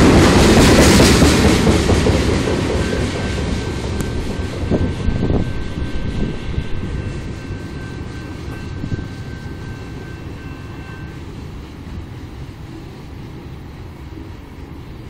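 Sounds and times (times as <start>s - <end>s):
freight train rumbling: 0.0s - 15.0s
faint high whine: 2.8s - 15.0s.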